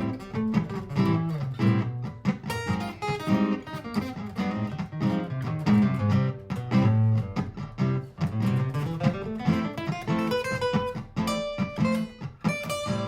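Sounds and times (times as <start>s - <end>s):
acoustic guitar playing: 0.0s - 13.0s
looped guitar bass notes: 0.0s - 13.0s.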